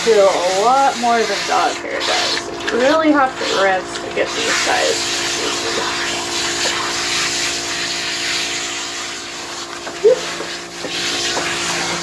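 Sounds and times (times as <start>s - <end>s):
shower sprayer running: 0.0s - 12.0s.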